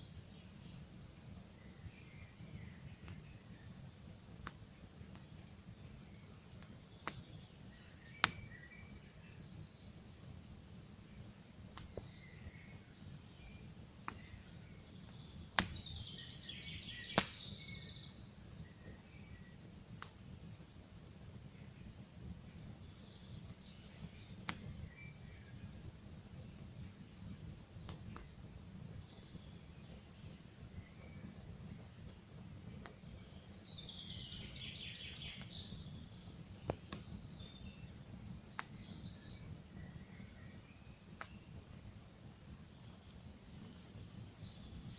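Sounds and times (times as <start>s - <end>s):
small birds chirping: 0.0s - 44.9s
campfire crackling and popping: 0.1s - 44.9s.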